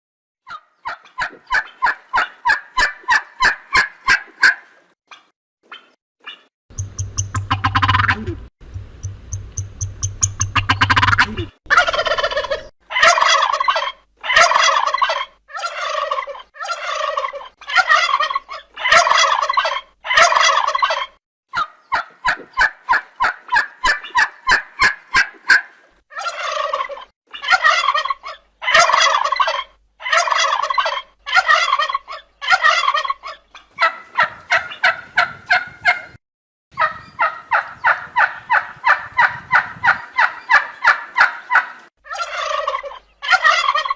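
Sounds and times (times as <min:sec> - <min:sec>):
turkey gobbling: 0:00.5 - 0:05.3, 0:06.3 - 0:08.4, 0:09.2 - 0:36.2, 0:36.8 - 0:43.9.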